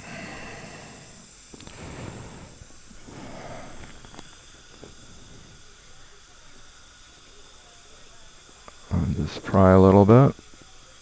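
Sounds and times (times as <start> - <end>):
dental equipment hiss: 0.0 - 11.0.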